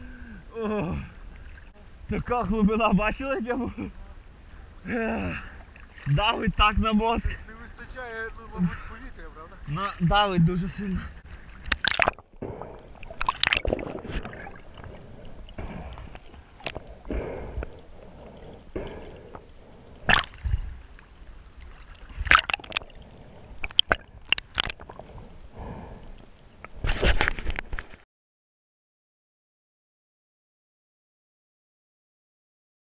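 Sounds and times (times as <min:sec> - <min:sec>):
muffled water sloshing and gurgling: 0:00.2 - 0:07.5, 0:08.4 - 0:28.0.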